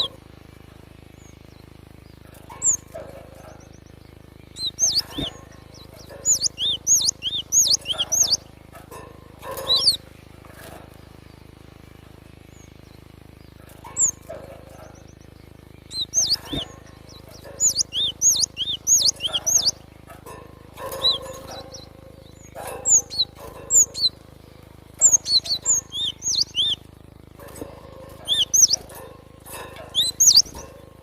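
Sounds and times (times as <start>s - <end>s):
bird chirping: 0.0s - 31.0s
steady low hum: 0.0s - 31.0s.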